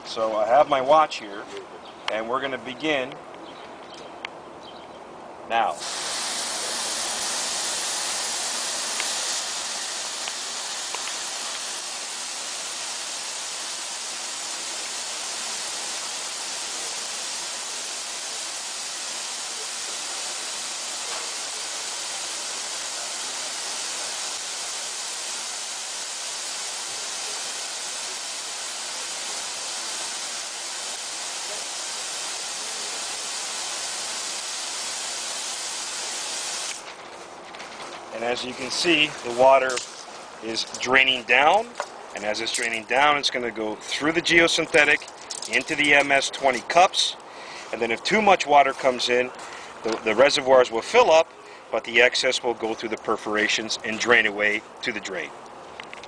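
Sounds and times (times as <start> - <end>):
hose jet spraying onto gravel: 5.5 - 56.0.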